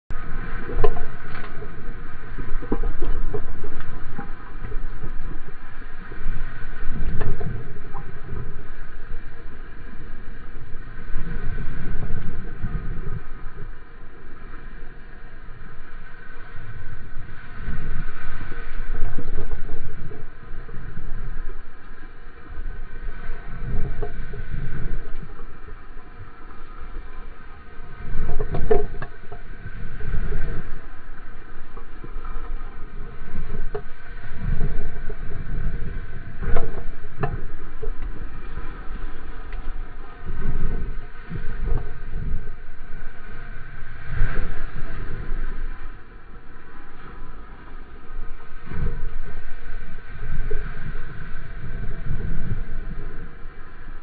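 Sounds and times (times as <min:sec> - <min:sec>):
water rushing: 0:00.1 - 0:54.0
wind buffeting camera: 0:00.1 - 0:54.0.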